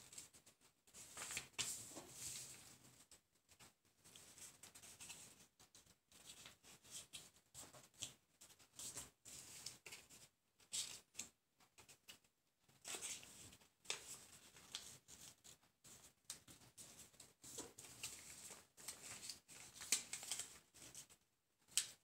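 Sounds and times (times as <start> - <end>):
paper rustling: 0.1 - 12.2, 12.8 - 22.0.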